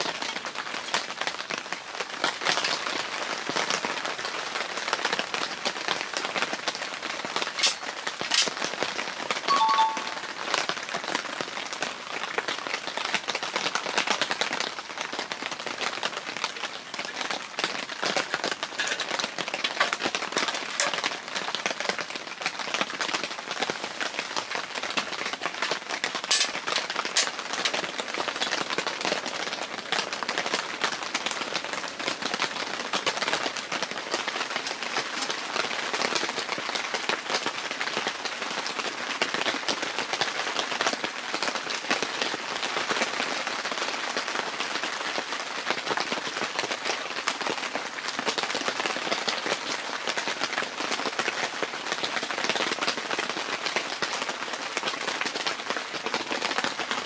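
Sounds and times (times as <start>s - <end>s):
rain on tent fabric: 0.0s - 57.0s.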